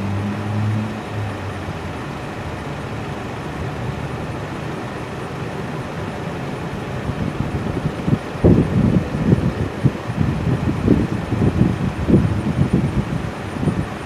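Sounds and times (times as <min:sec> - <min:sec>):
jet engine roar: 0:00.0 - 0:14.0
wind buffeting microphone: 0:00.0 - 0:14.0.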